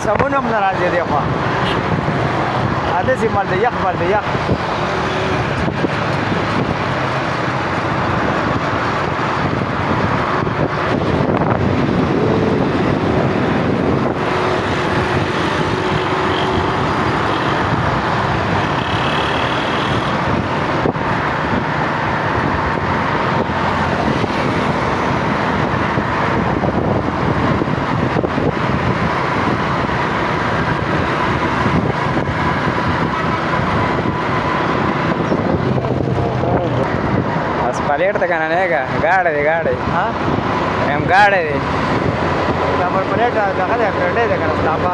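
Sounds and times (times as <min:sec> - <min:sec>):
road vehicle rumble and hiss: 0:00.0 - 0:44.9.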